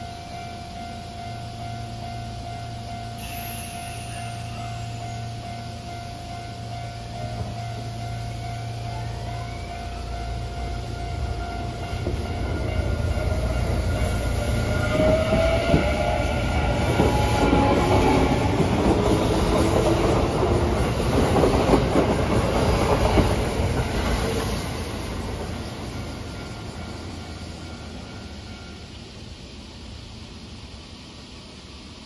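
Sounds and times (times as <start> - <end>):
electric train motor whine: 0.0 - 29.4.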